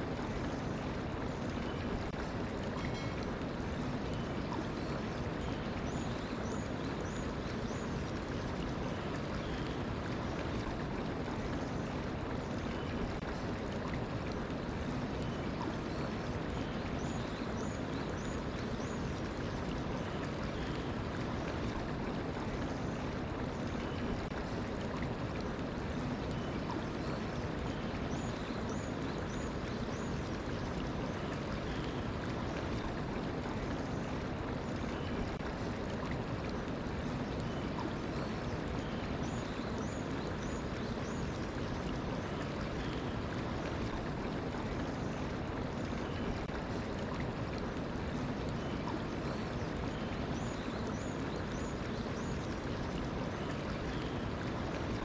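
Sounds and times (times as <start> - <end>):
mountain stream flowing: 0.0 - 55.0.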